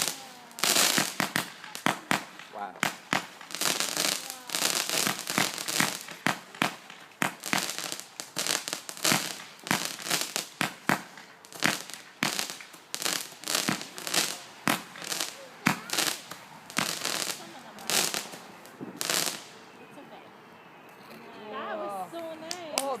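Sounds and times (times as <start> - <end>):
firework bangs: 0.0 - 19.8
firework crackling: 0.0 - 19.8, 22.4 - 23.0.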